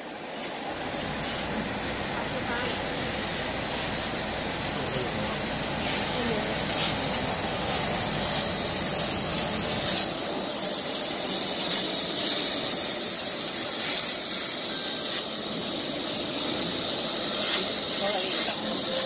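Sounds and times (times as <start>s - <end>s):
machine fans hissing air: 0.0s - 19.0s.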